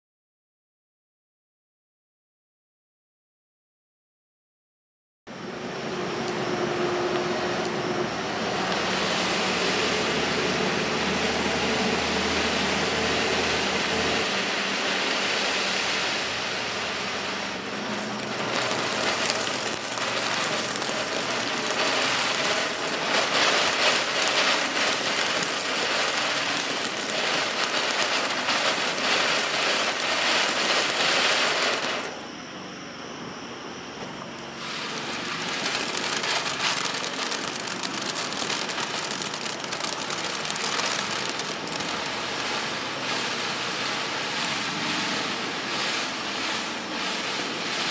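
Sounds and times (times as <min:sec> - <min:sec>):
fireworks fountain hissing: 0:05.3 - 0:32.2, 0:34.0 - 0:47.9
sparks crackling: 0:05.4 - 0:32.2, 0:34.6 - 0:47.8.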